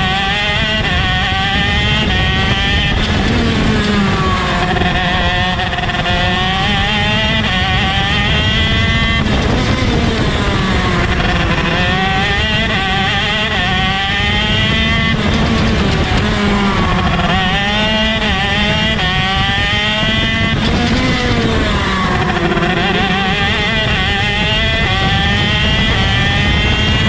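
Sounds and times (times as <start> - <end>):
kart engine at race speed: 0.0 - 27.0.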